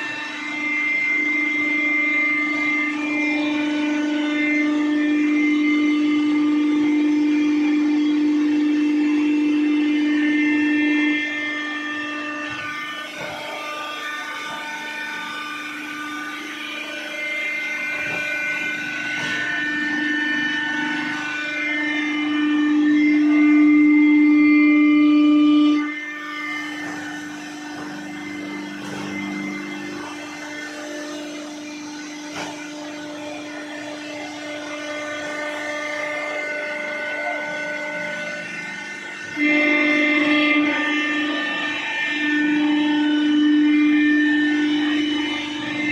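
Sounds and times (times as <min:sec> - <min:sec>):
hydraulic press whine: 0:00.0 - 0:45.9.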